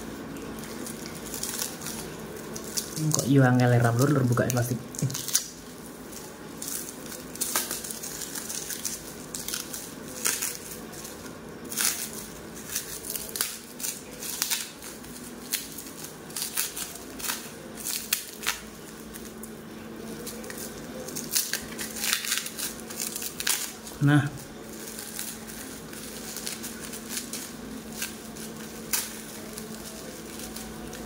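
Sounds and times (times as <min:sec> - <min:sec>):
plastic wrapping crinkling: 0:00.0 - 0:31.0.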